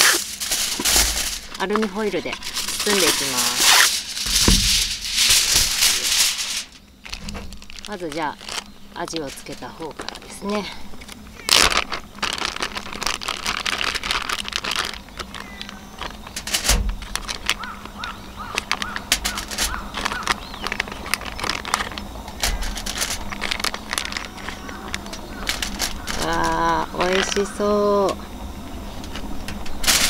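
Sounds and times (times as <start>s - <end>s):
plastic bag crinkling: 0.0s - 27.7s, 28.4s - 30.0s
aluminium foil crackling: 0.0s - 30.0s.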